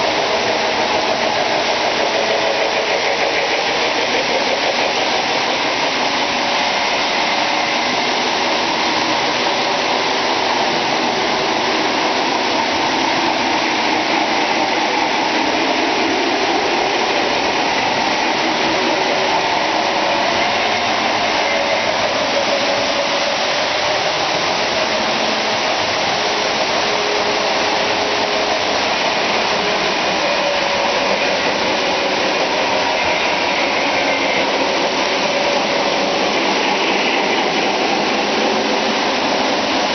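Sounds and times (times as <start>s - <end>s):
model trains whirring and rumbling: 0.0s - 39.9s.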